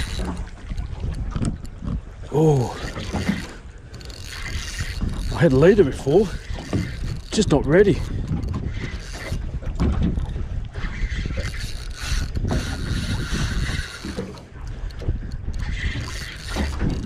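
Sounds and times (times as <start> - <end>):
fishing reel gears whirring: 0.0 - 17.0
wind buffeting microphone: 0.0 - 17.0.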